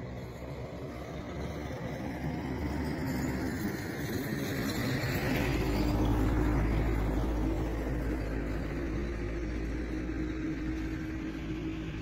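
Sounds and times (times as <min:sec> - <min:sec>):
vehicle engine approaching: 0:00.0 - 0:12.0.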